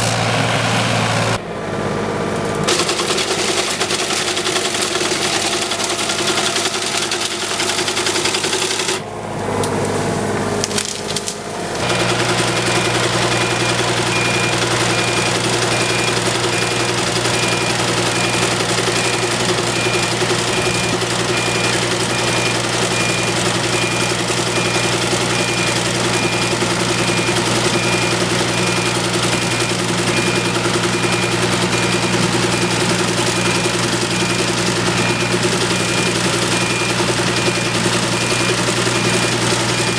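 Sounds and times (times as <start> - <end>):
excavator engine running under load: 0.0 - 39.9.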